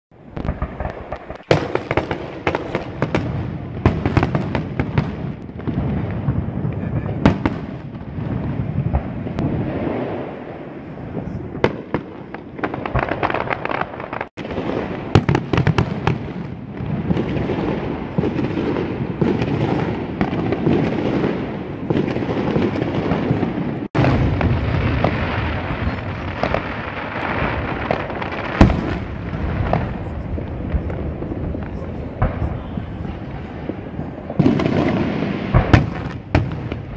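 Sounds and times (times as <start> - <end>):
firework bangs: 0.2 - 36.9
firework crackling: 0.2 - 36.9.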